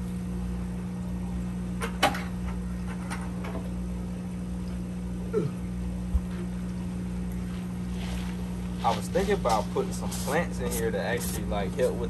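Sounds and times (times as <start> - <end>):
aquarium equipment hum: 0.0 - 12.0.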